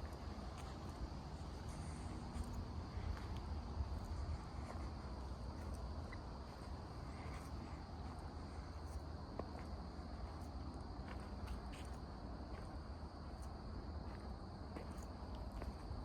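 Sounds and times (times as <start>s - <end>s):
insect chorus chirring: 0.0s - 16.0s.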